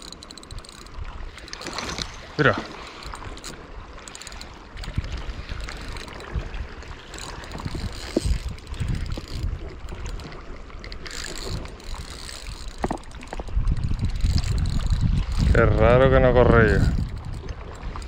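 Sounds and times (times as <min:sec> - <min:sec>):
fishing reel knocks and rubbing: 0:00.0 - 0:18.0
water sloshing against rocks: 0:00.0 - 0:18.0
wind buffeting microphone: 0:00.0 - 0:18.0.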